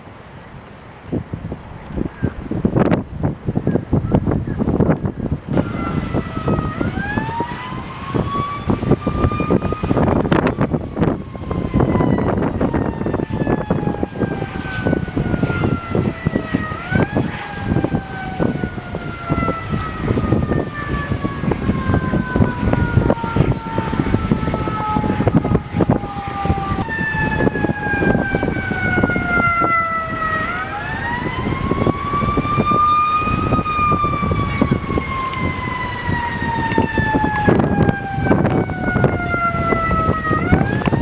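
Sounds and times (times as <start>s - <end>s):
low rumbling and buffeting: 0.0s - 41.0s
siren wailing: 5.5s - 41.0s.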